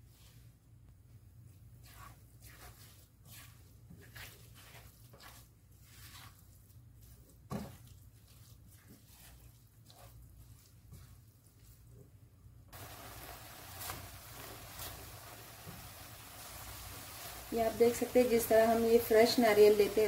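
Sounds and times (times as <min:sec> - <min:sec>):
spatula scraping in a pan: 0:01.7 - 0:11.8, 0:12.7 - 0:20.0.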